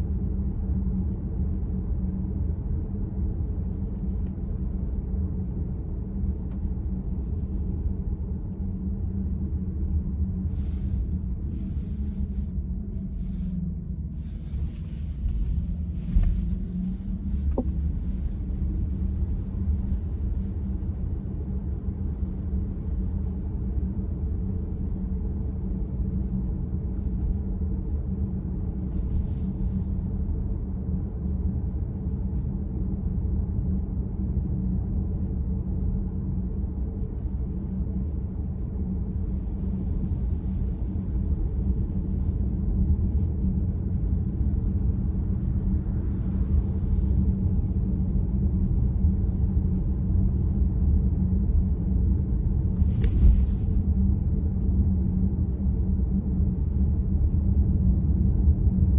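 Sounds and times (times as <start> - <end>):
car road and engine rumble: 0.2 - 58.9.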